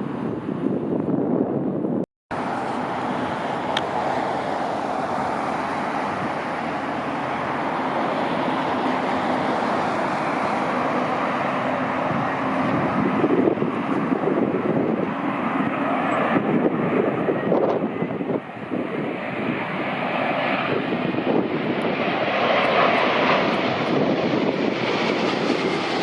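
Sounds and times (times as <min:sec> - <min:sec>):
airliner jet engines landing: 0:00.0 - 0:26.0.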